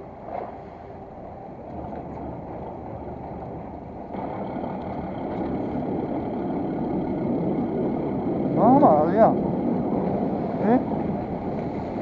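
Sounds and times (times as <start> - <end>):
boat engine running: 0.0 - 12.0
water rushing against hull: 0.0 - 12.0.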